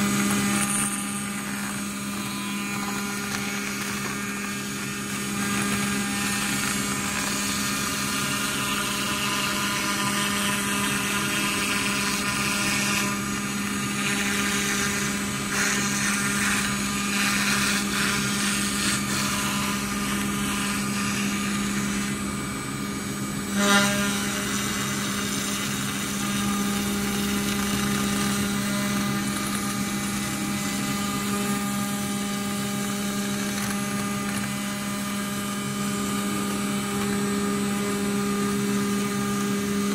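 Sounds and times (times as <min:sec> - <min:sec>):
router spindle milling whine: 0:00.0 - 0:39.9.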